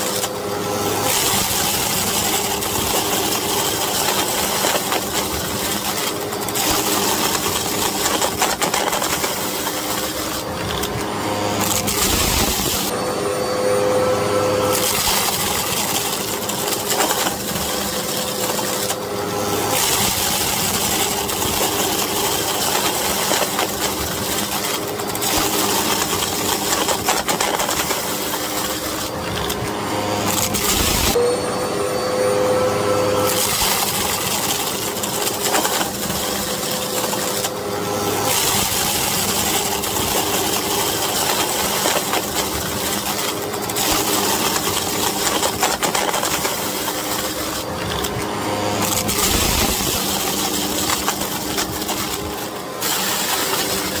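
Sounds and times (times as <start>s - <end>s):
vacuum cleaner droning: 0.0s - 54.0s
debris rattling into nozzle: 1.0s - 12.9s, 14.7s - 31.2s, 33.3s - 54.0s.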